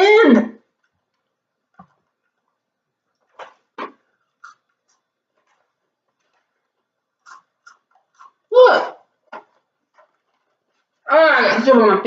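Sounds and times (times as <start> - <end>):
soft eating clicks and rustles: 0.7 - 11.1.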